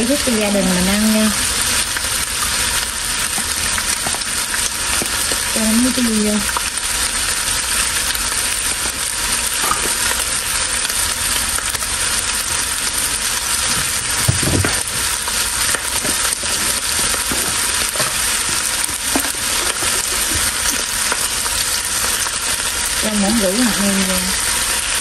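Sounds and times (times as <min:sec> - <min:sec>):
meat sizzling in oil: 0:00.0 - 0:25.0.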